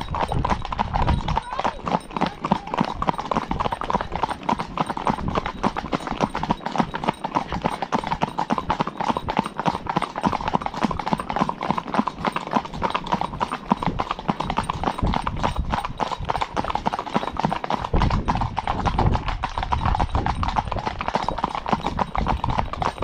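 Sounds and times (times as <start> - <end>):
horse hooves clip-clopping on tarmac: 0.0 - 23.0.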